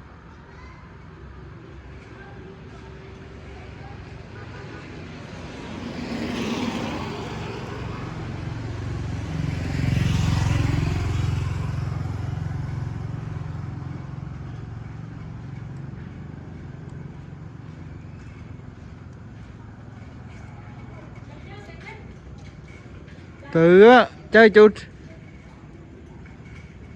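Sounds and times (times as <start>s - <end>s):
vehicles passing on a street: 0.0s - 26.9s.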